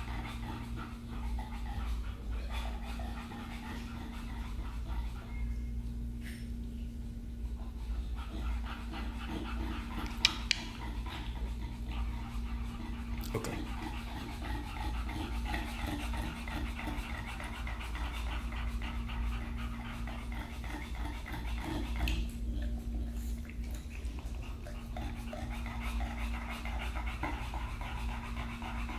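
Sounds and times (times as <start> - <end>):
dogs panting: 0.0 - 28.9
steady low hum: 0.0 - 28.9.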